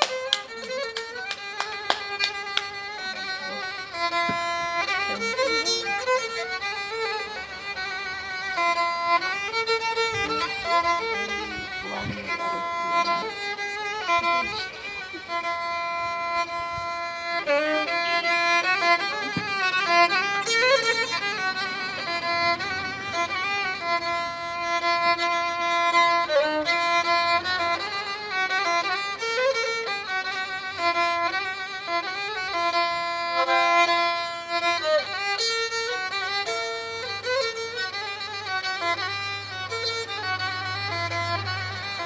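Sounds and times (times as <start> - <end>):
solo violin folk melody: 0.0 - 42.0.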